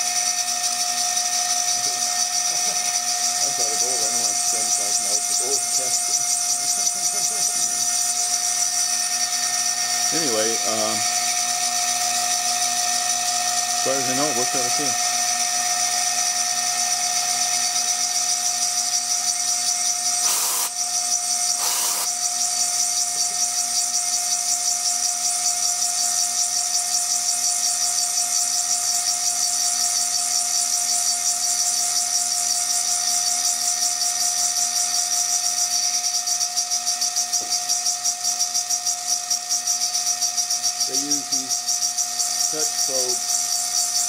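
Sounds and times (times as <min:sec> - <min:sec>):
milling spindle whining: 0:00.0 - 0:44.0.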